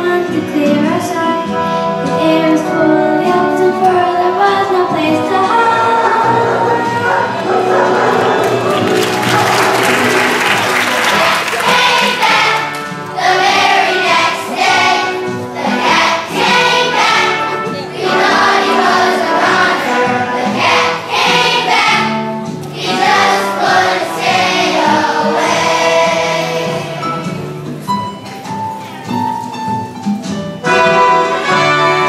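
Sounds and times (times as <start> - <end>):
children's choir singing: 2.2 - 27.9.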